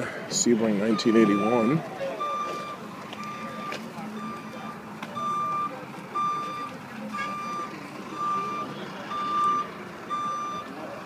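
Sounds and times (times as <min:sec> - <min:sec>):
vehicle reversing alarm beeping: 0:00.0 - 0:11.0.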